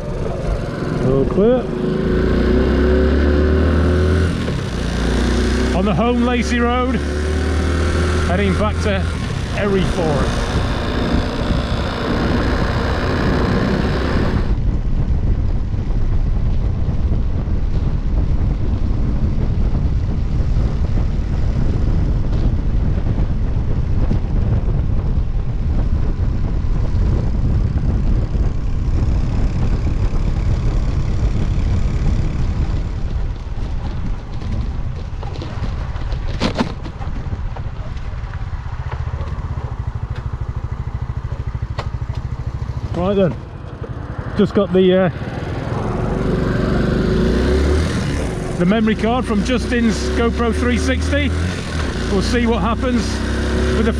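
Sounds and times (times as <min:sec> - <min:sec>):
small motorcycle engine running: 0:00.0 - 0:53.9
wind rumble on microphone: 0:00.0 - 0:53.9.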